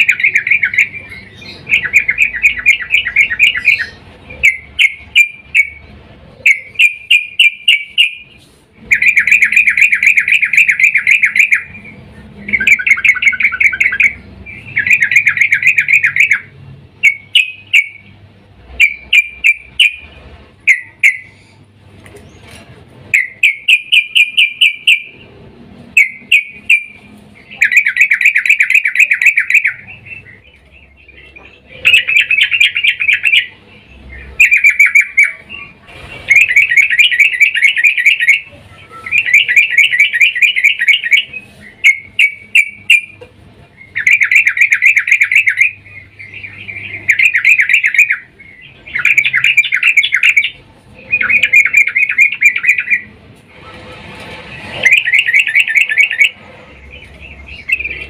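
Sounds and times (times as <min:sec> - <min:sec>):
bird chattering call: 0:00.0 - 0:25.4, 0:26.0 - 0:53.2, 0:54.6 - 0:58.0.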